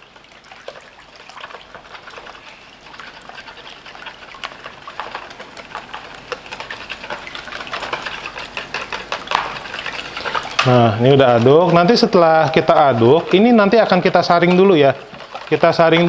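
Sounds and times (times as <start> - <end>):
whisk beating liquid in bowl: 0.0 - 16.0.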